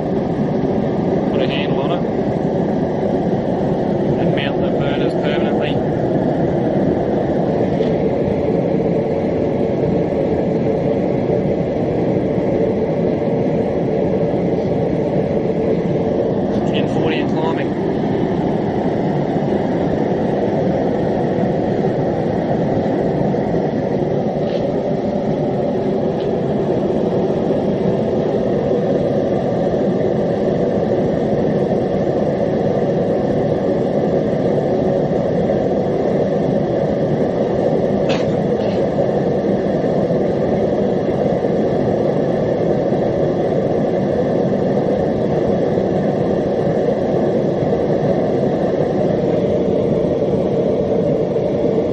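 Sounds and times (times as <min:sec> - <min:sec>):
gas forge burners roaring: 0:00.0 - 0:51.9.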